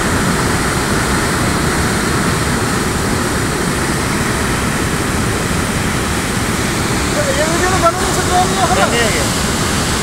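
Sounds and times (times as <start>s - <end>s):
torrent of water and debris rushing: 0.0s - 10.0s.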